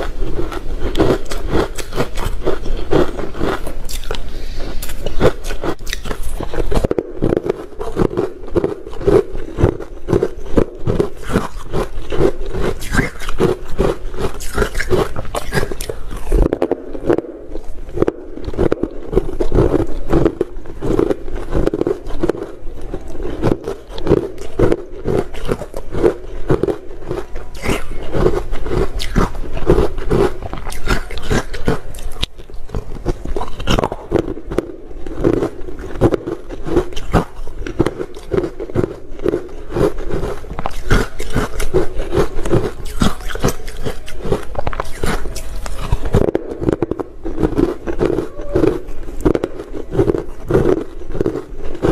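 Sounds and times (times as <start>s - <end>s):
chewing ice crunching: 0.0s - 51.9s.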